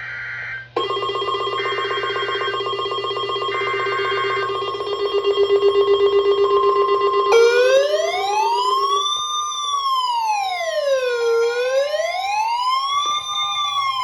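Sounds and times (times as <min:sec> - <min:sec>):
electronic alarm trill: 0:00.0 - 0:14.0
higher alarm tone: 0:00.0 - 0:14.0
rising siren: 0:00.0 - 0:14.0.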